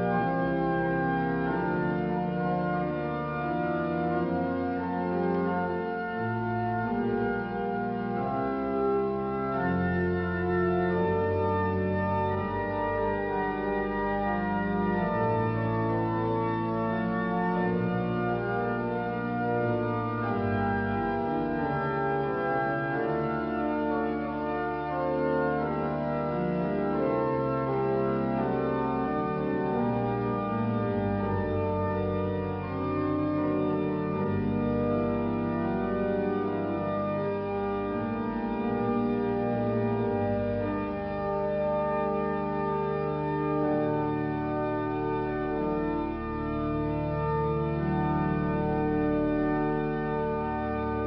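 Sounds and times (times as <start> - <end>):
church organ playing slow chords: 0.0 - 51.0.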